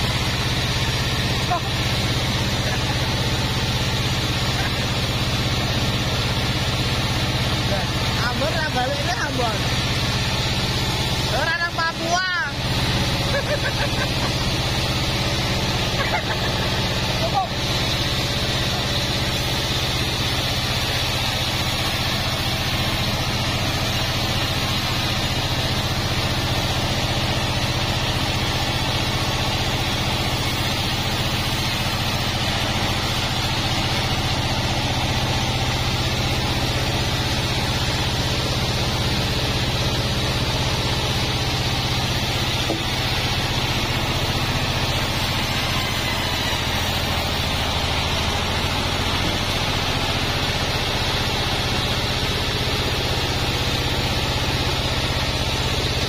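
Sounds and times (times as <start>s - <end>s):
band sawmill cutting log: 0.0s - 56.0s.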